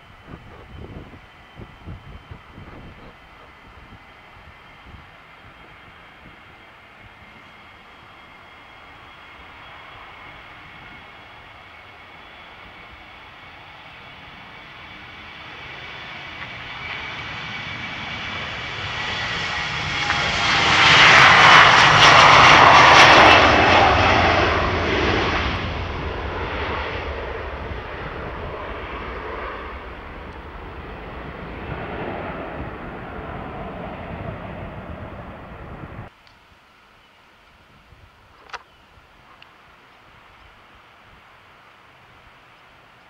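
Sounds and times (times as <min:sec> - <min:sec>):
jet engine whine at takeoff: 0:00.0 - 0:43.0.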